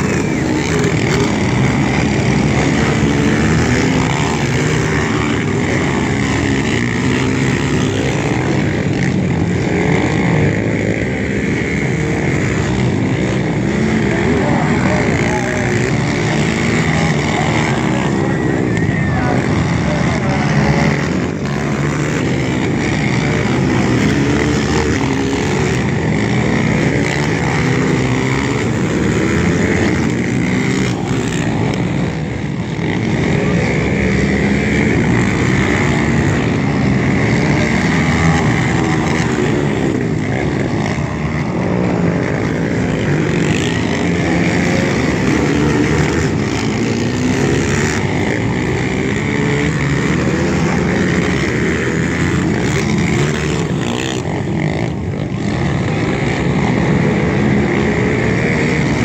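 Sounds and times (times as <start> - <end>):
atv engines revving: 0.0 - 59.0.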